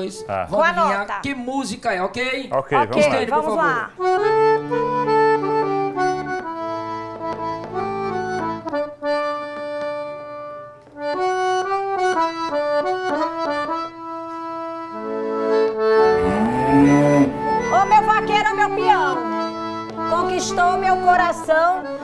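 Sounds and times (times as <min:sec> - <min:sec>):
solo accordion melody: 0:02.9 - 0:22.0.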